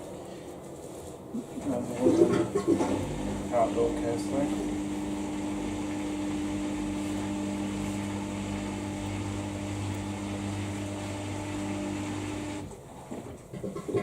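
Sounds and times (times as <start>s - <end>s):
washing machine electrical hum: 0.0s - 14.0s
water sloshing in washing machine: 1.8s - 14.0s.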